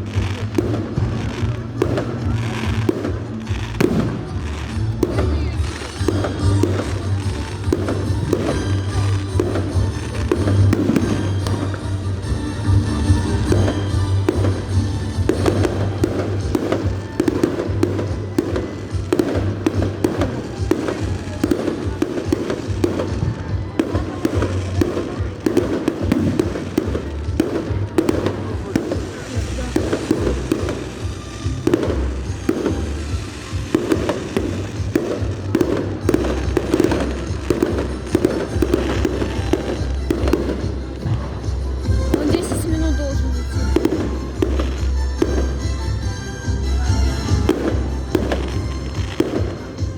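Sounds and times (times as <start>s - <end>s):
fireworks bangs and crackles: 0.0s - 49.9s
music playing: 0.0s - 49.9s.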